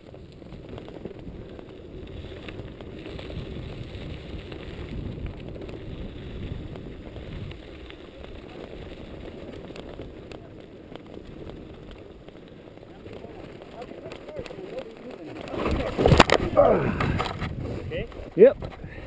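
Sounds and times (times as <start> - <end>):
small clicks and rattles: 0.0 - 19.0
tyres rumbling on gravel: 0.0 - 19.0
wind buffeting microphone: 0.0 - 19.0.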